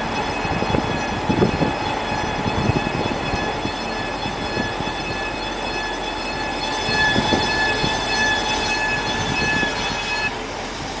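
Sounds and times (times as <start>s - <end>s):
wheel hub squealing whine: 0.0s - 11.0s.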